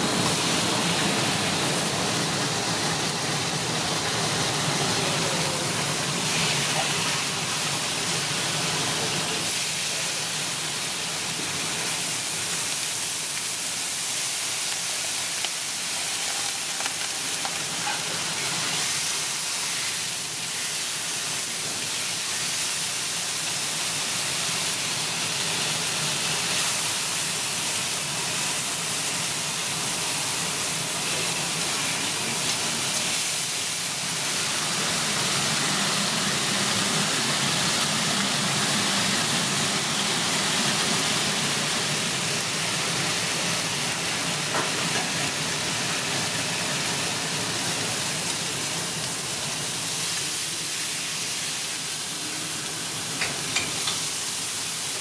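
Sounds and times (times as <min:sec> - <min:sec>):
steak sizzling on griddle: 0:00.0 - 0:55.0.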